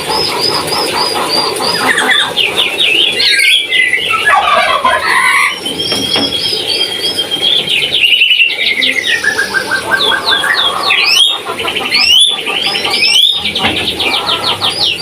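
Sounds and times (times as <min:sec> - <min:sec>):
parrot calling: 0:00.0 - 0:15.0.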